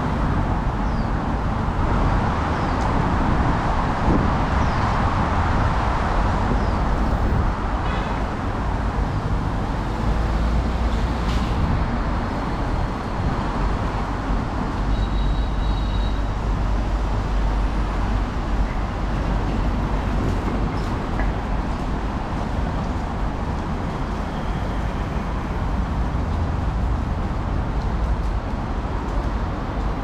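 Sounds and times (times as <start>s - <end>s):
city traffic rumble: 0.0s - 30.0s.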